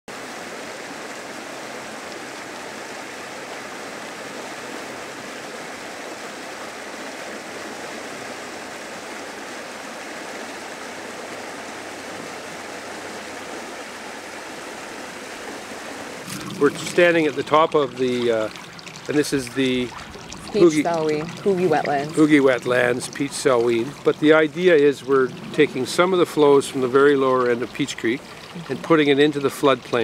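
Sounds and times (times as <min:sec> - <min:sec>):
creek running over rocks: 0:00.1 - 0:30.0.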